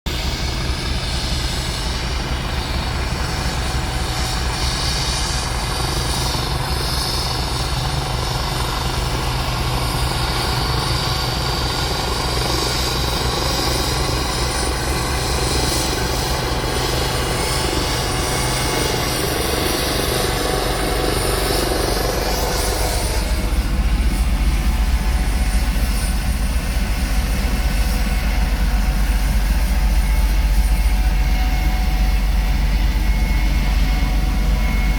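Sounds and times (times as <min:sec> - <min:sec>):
helicopter rotor beating: 0:00.1 - 0:34.9
helicopter turbine whine: 0:00.1 - 0:34.9.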